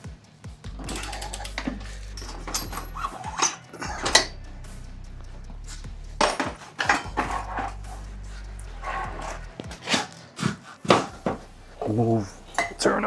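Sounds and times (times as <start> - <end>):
low background music: 0.0 - 13.0
tire spoons clinking on wheel rim: 0.0 - 13.0.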